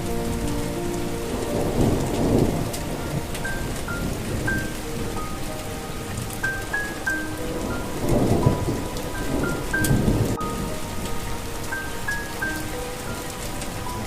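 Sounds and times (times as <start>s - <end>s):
low thunder rumbling: 0.0s - 14.0s
slow melody of soft notes: 0.0s - 14.0s
steady rain: 0.0s - 14.0s.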